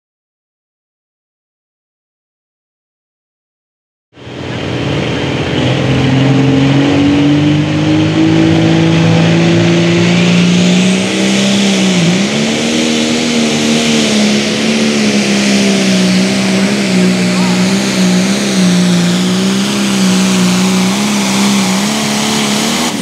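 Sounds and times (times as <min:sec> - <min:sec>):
diesel engine revving: 0:04.2 - 0:23.0.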